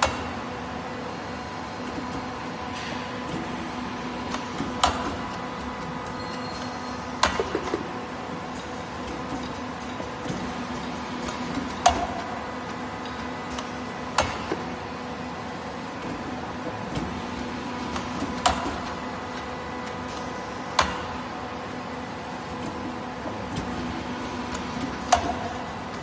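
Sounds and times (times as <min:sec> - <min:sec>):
machine mechanical hum: 0:00.0 - 0:26.0.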